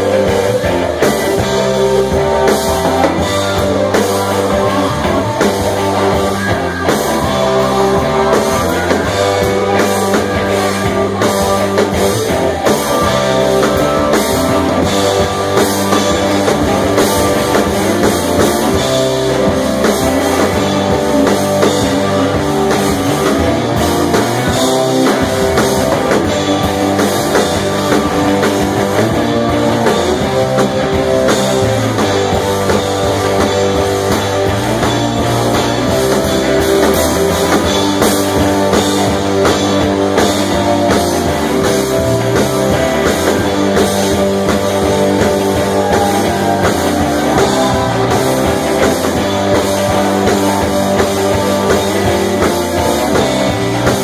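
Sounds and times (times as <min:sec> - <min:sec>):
bass guitar: 0:00.0 - 0:54.0
drum kit steady beat: 0:00.0 - 0:54.0
electric guitars: 0:00.0 - 0:54.0.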